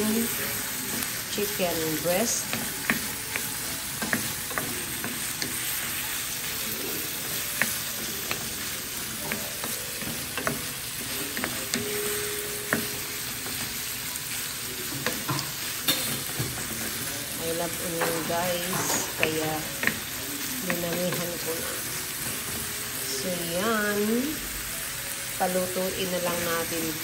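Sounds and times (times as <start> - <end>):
chicken sizzling in a pan: 0.0 - 27.0.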